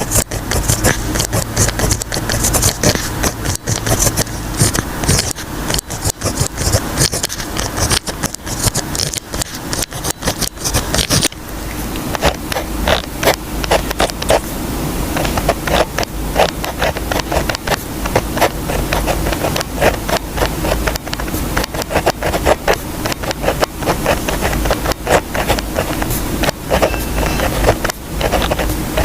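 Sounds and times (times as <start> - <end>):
pen scratching on paper: 0.0 - 11.4, 12.1 - 14.5, 15.1 - 29.0.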